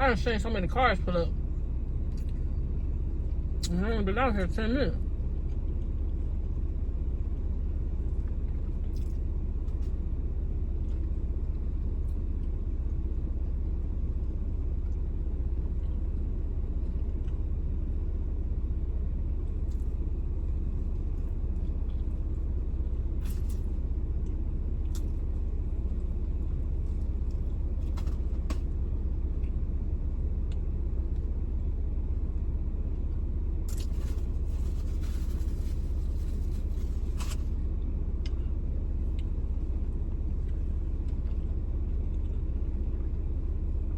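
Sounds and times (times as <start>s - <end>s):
car idling rumble: 0.0s - 43.9s.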